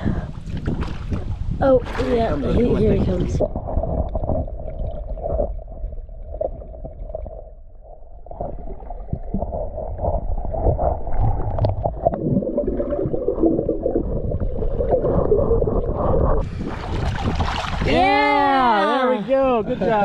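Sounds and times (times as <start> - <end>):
underwater bubbling: 0.0 - 18.4
muffled underwater rumbling: 0.0 - 18.7
underwater knocks: 0.4 - 7.6, 8.3 - 17.8.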